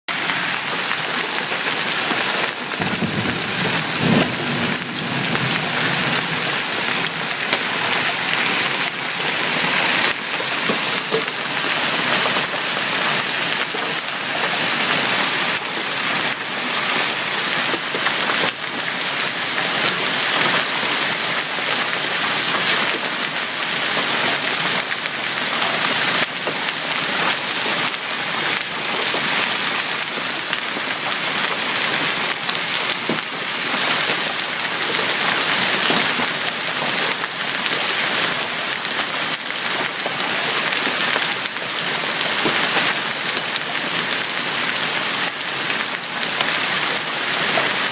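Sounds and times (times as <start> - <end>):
hailstones striking hard surfaces: 0.1 - 47.9.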